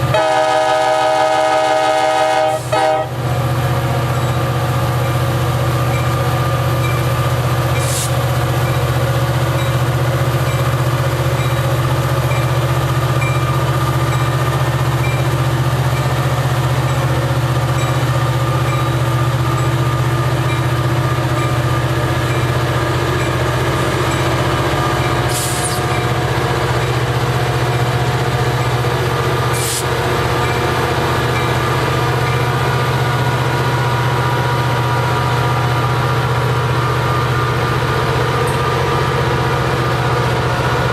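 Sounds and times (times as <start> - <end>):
locomotive engine humming: 0.0 - 40.9.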